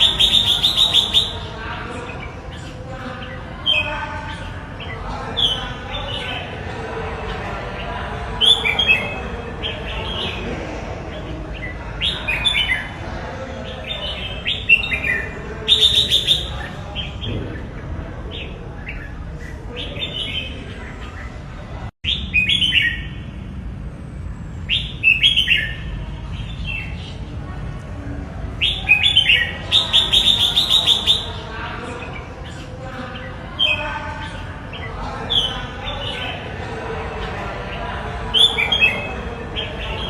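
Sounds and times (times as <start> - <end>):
bird singing warbling phrases: 0.0 - 23.3, 24.6 - 27.4, 28.2 - 40.0.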